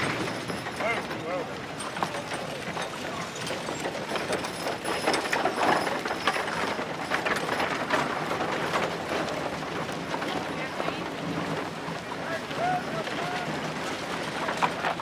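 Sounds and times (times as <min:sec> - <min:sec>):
hooves clopping: 0:00.0 - 0:15.0
wooden wagon rattling and knocking: 0:00.0 - 0:15.0.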